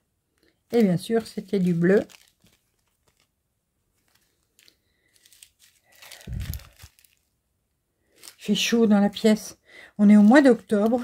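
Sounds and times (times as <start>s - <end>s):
plastic packaging crinkling: 0.4s - 7.4s, 8.1s - 9.4s, 10.0s - 11.0s.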